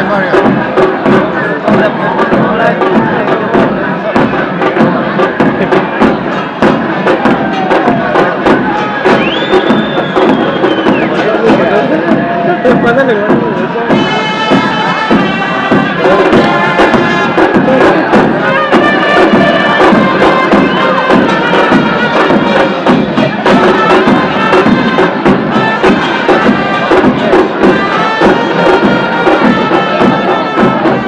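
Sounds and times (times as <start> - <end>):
drum beats: 0.0 - 31.0
wind instrument notes: 0.0 - 31.0.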